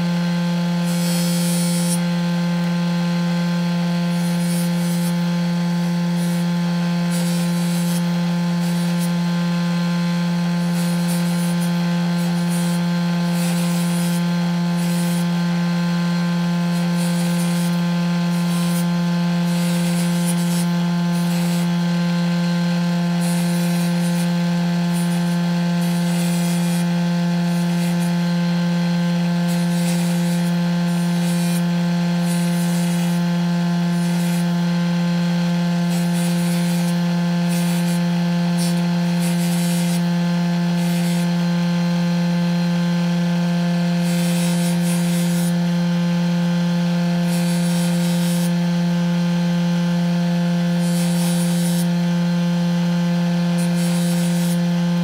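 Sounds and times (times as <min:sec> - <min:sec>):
spindle machine humming: 0:00.0 - 0:55.0
leather scraping on spindle: 0:00.8 - 0:02.2, 0:03.7 - 0:41.6, 0:43.9 - 0:45.7, 0:47.2 - 0:48.6, 0:50.6 - 0:51.9, 0:53.5 - 0:54.7.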